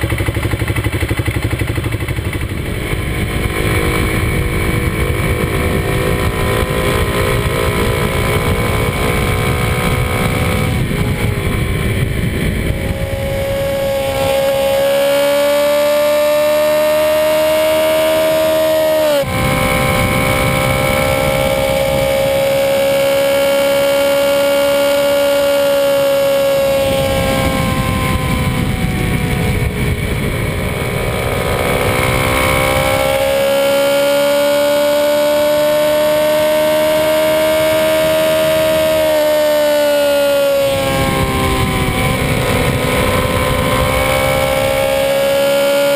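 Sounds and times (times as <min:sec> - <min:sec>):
motorcycle engine running: 0:00.0 - 0:45.9
wind rumble on microphone: 0:00.0 - 0:45.9.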